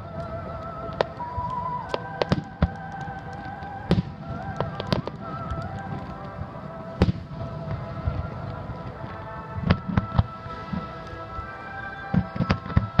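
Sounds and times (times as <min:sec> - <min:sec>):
fireworks bursting with bangs: 0:00.0 - 0:13.0
music with sustained notes: 0:00.0 - 0:13.0.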